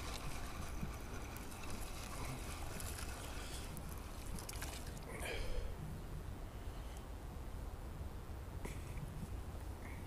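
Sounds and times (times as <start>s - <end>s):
rustle: 0.0s - 10.0s
wind rumbling on microphone: 0.0s - 10.0s.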